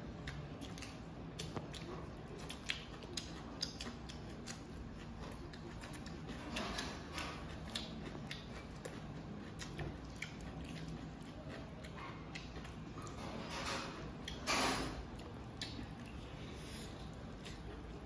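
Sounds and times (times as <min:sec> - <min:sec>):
chewing and lip smacks: 0:00.0 - 0:13.3, 0:14.0 - 0:18.0
wet squishing of food: 0:00.0 - 0:18.0.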